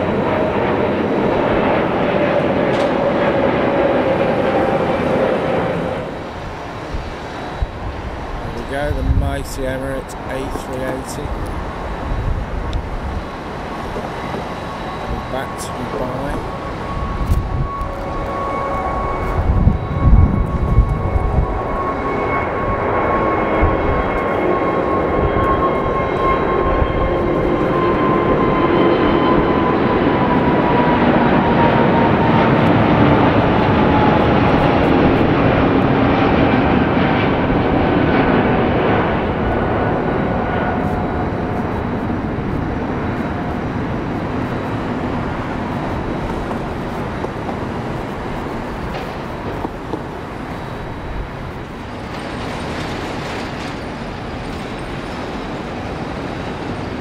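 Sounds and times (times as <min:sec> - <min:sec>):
engine whine gliding down: 0:00.0 - 0:57.0
jet engines at take-off: 0:00.0 - 0:57.0.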